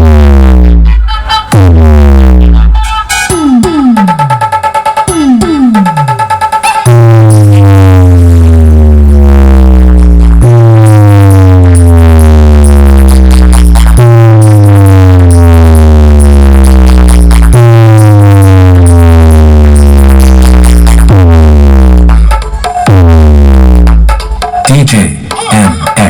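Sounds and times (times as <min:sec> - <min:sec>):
loud electronic bass music: 0:00.0 - 0:26.0.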